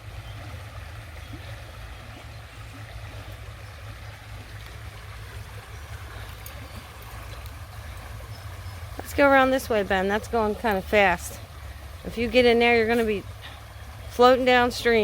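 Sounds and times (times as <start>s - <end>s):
creek rushing: 0.0s - 15.0s
steady low rumble: 0.0s - 15.0s.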